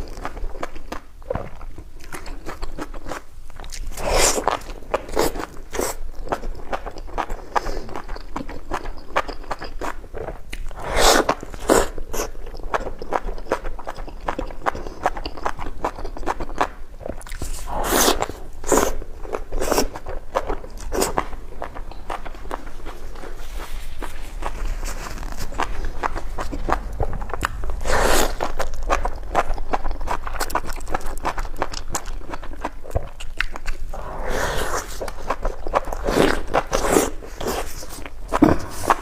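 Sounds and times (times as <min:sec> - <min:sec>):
wet chewing clicks: 0:00.0 - 0:39.0.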